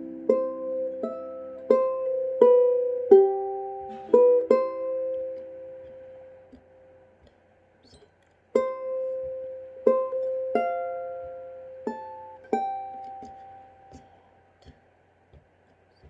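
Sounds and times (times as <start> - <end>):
ukulele playing chords: 0.0 - 15.3.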